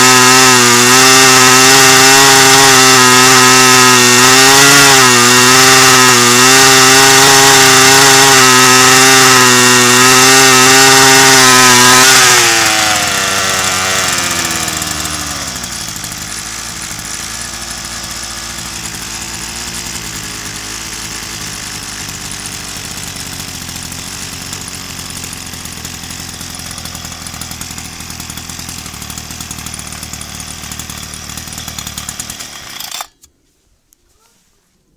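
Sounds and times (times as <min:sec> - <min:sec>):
brush cutter engine revving: 0:00.0 - 0:33.3.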